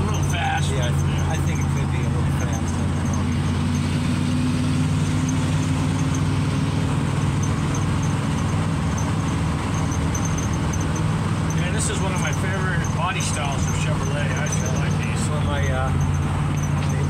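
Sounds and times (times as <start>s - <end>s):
road and tyre noise: 0.0s - 17.0s
truck engine running: 0.0s - 17.0s.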